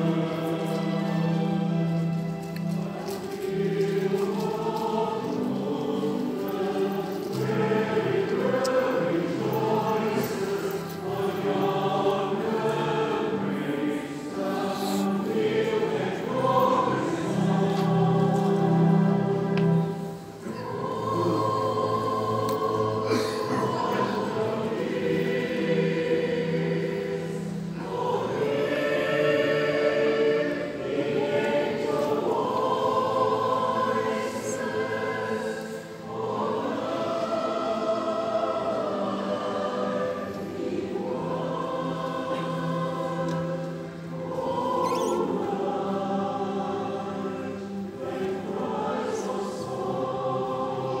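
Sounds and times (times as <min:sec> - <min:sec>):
choir singing a slow hymn: 0:00.0 - 0:51.0.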